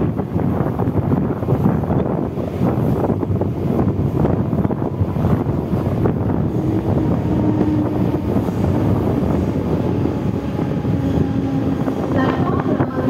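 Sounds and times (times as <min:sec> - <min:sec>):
train running rumble: 0:00.0 - 0:13.0
wind buffeting microphone: 0:00.0 - 0:13.0.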